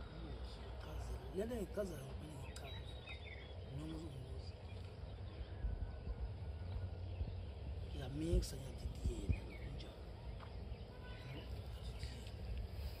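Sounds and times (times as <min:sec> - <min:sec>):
faint bird chirps: 0:00.0 - 0:13.0
murmur of a voice: 0:00.0 - 0:13.0
wind rumble on microphone: 0:02.1 - 0:13.0.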